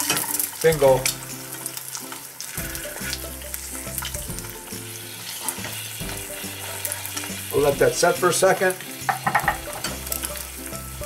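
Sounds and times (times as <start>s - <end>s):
oil spattering crackles: 0.0s - 10.5s
egg sizzling in a pan: 0.0s - 11.0s.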